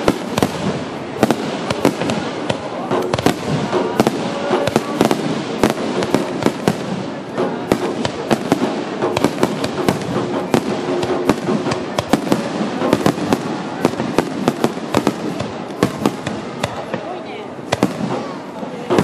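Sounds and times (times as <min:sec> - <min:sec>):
firework shells bursting: 0:00.0 - 0:17.0
firework crackle: 0:00.0 - 0:19.0.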